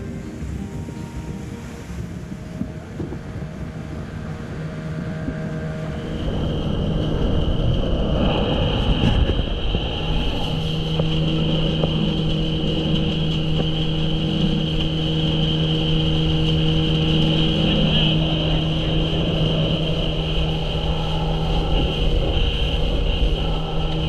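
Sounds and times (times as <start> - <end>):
boat motor running: 0.0 - 24.0
water rushing: 0.0 - 24.0
wind: 0.0 - 24.0.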